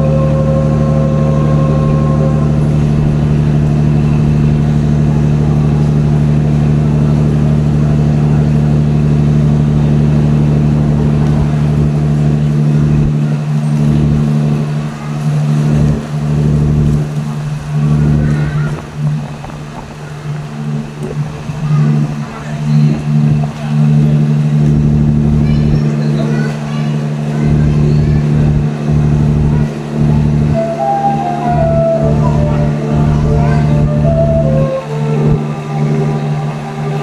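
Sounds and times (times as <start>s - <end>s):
locomotive engine deep hum: 0.0s - 37.0s.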